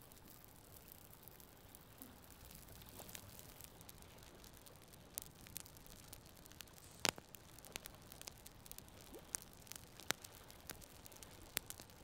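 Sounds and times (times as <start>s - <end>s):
campfire crackling and popping: 0.0s - 12.0s
faint low hiss: 0.0s - 12.0s.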